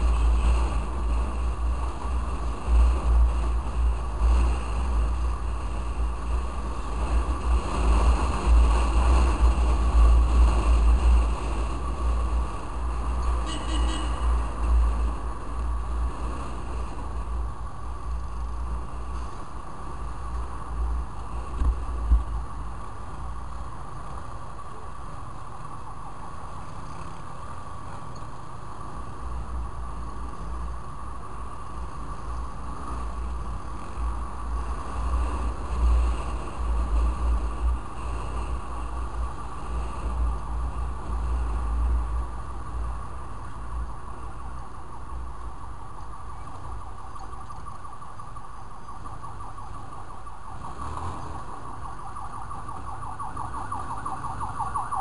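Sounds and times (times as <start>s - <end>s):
wind buffeting microphone: 0.0s - 25.8s, 26.4s - 55.0s
motorcycle engine hum: 0.0s - 55.0s.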